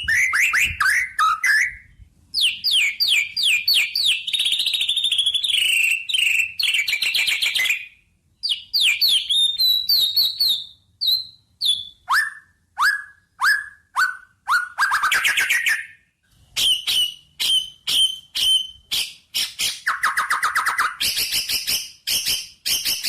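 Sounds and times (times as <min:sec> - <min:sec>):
songbird downslurred whistles: 0:00.0 - 0:16.0, 0:16.6 - 0:23.0
songbird chirps and trills: 0:00.0 - 0:23.0.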